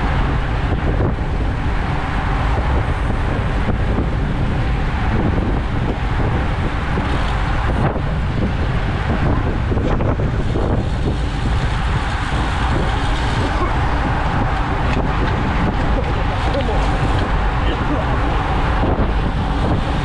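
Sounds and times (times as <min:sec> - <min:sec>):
tyres rumbling on road: 0:00.0 - 0:20.0
wind rushing over microphone: 0:00.0 - 0:20.0.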